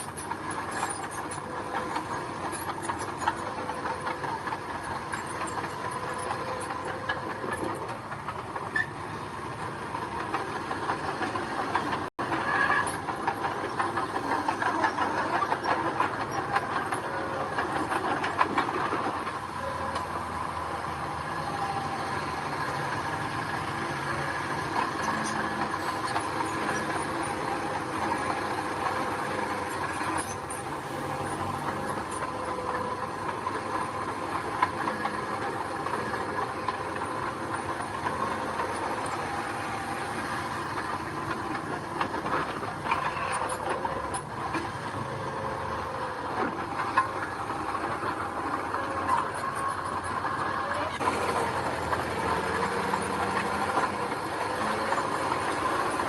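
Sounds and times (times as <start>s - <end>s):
heavy machinery engine whining: 0.0s - 56.0s.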